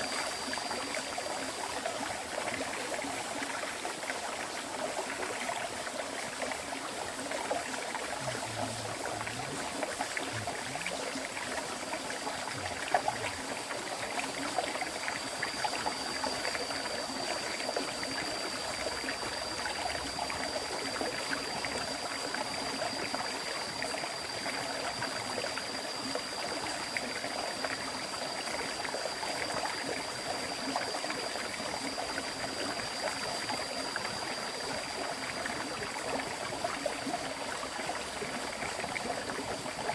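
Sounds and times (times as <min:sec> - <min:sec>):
river water flowing: 0:00.0 - 0:39.9
thin steady high tone: 0:00.0 - 0:39.9.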